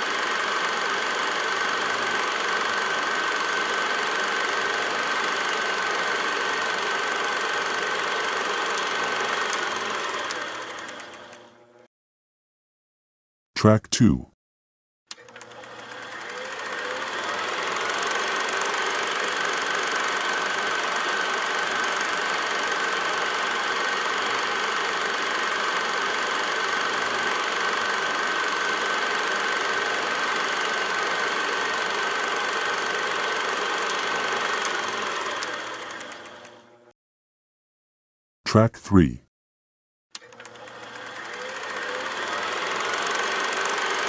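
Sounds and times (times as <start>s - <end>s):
film projector running: 0.0s - 11.9s, 15.1s - 36.9s, 40.2s - 44.0s.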